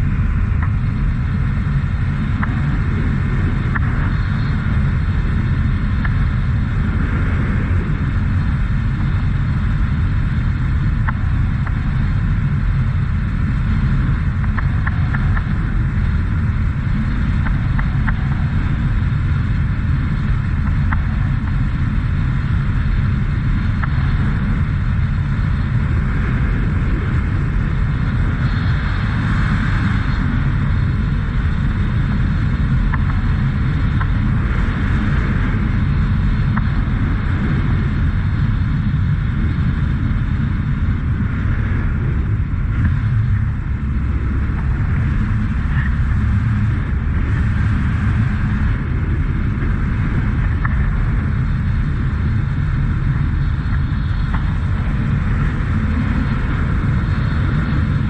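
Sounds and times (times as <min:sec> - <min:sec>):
motorcycle engine rumble: 0:00.0 - 0:58.0
wind rushing over microphone: 0:00.0 - 0:58.0.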